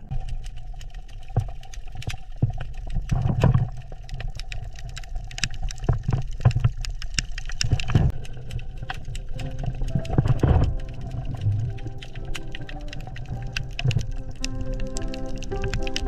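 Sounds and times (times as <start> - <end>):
low rumble of moving water: 0.0 - 16.0
scattered clicks and crackles: 0.0 - 16.0.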